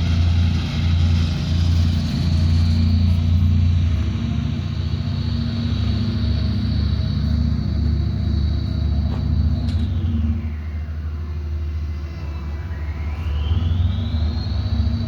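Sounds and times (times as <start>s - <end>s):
diesel machinery rumbling: 0.0s - 15.0s
high whine: 0.0s - 15.0s.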